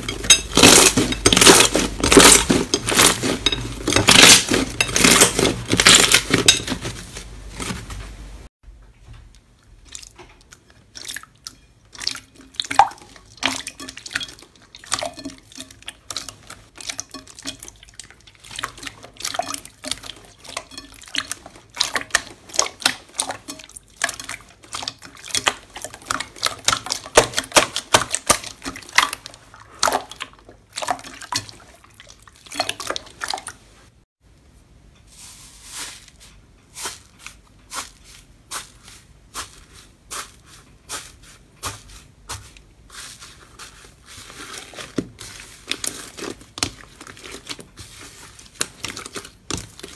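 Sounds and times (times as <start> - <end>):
slime squelching: 0.0 - 8.0, 9.4 - 33.7, 35.2 - 49.9.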